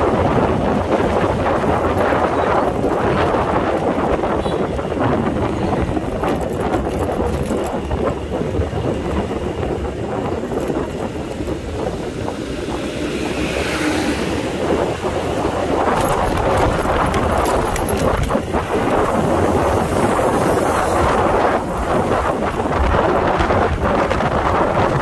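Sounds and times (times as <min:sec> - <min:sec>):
motor scooter engine and road noise: 0:00.0 - 0:25.0
wind rushing over microphone: 0:00.0 - 0:25.0.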